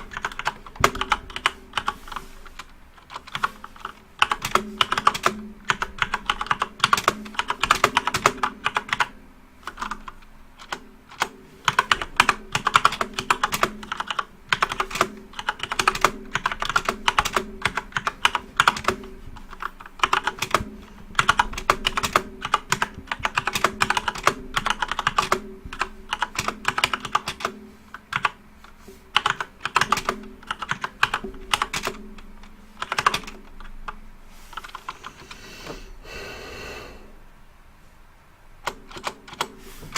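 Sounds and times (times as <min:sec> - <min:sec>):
keyboard typing: 0:00.0 - 0:35.8, 0:38.6 - 0:39.9.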